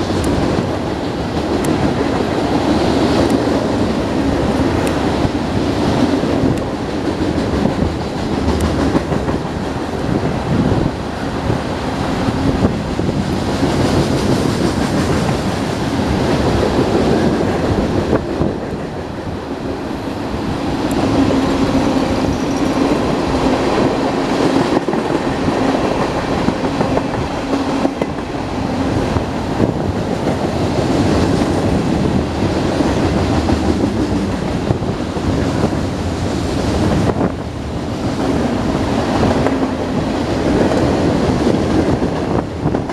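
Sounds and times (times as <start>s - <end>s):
freight train rumbling past: 0.0s - 42.9s
wheels clickety-clack over rail joints: 0.0s - 42.9s.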